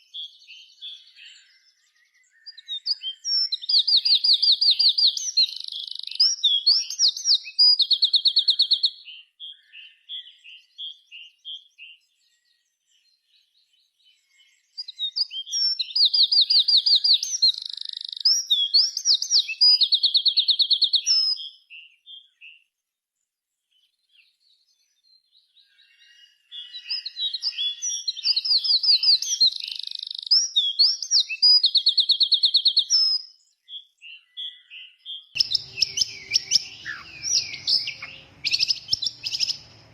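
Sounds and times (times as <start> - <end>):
songbird trilling song: 0.0 - 39.9.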